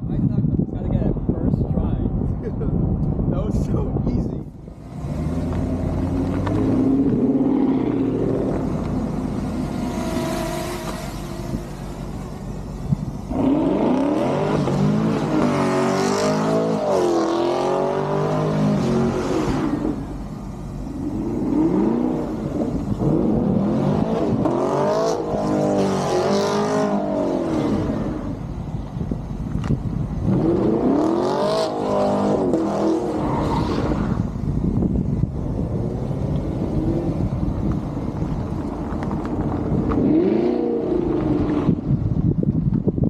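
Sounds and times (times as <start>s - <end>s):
car engine revving: 4.5s - 42.1s.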